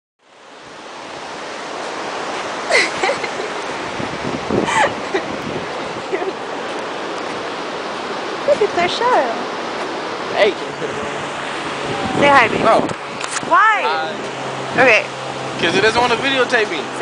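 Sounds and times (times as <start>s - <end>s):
rushing outdoor noise: 0.2s - 17.0s.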